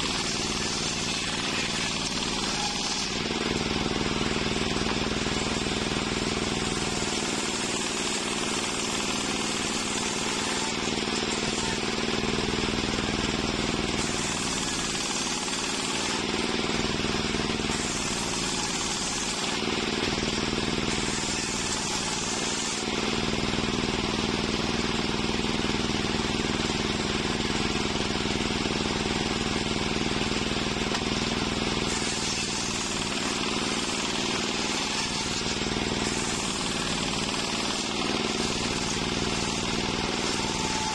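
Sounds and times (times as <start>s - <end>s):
saw blade rasping through wood: 0.0s - 25.1s, 29.2s - 40.9s.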